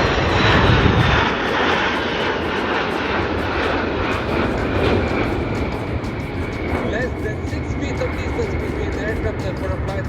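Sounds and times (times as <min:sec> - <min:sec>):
jets flying past: 0:00.0 - 0:10.0.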